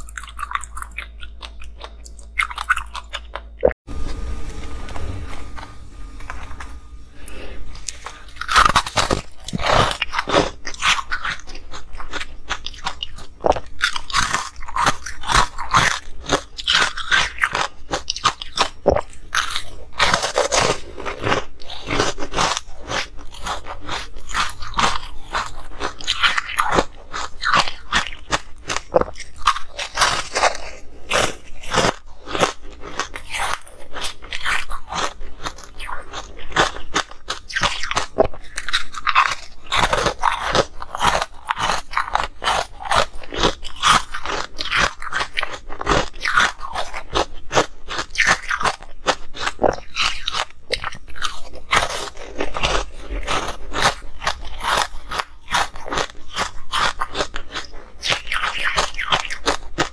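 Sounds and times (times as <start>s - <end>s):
ice being chewed: 0.0s - 3.8s, 7.2s - 59.9s.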